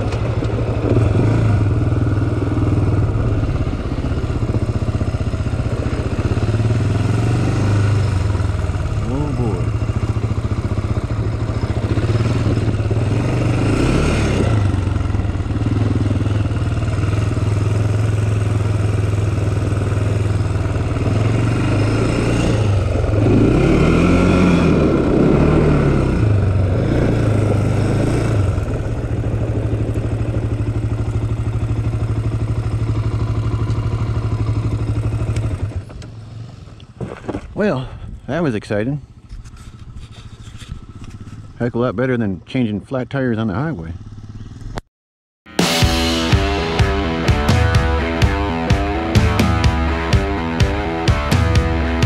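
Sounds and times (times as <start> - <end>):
quad engine revving: 0.0 - 36.0, 45.6 - 52.0.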